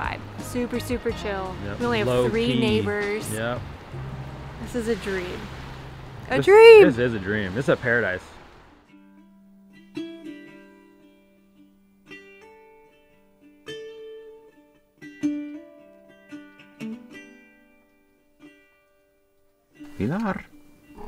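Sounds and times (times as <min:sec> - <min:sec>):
slow plucked string melody: 0:00.0 - 0:07.0, 0:08.9 - 0:21.0.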